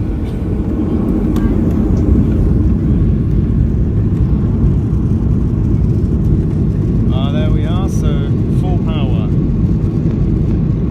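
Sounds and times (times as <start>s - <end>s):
jet engines rumbling in cabin: 0.0s - 10.9s.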